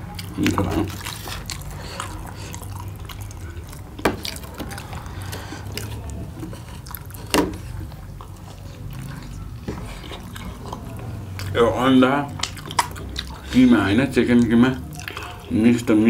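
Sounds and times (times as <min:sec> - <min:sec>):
wet eating sounds: 0:00.0 - 0:16.0.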